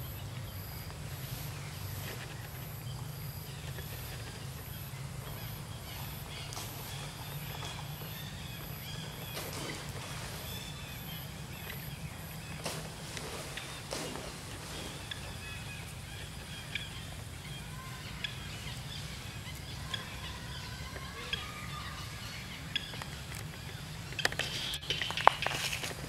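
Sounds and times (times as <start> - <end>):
faint bird chirps: 0.0 - 25.9
steady low hum: 0.0 - 26.0.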